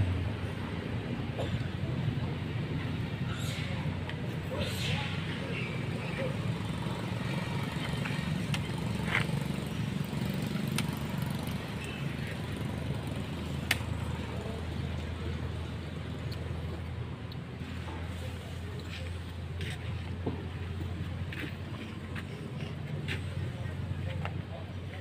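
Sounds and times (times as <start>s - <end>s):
low engine-like rumble: 0.0s - 25.0s.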